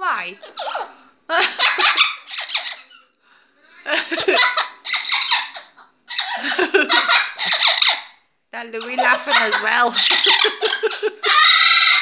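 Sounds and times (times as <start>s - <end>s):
parrot mimicking laughter: 0.4s - 3.1s, 3.9s - 8.2s, 8.8s - 12.0s.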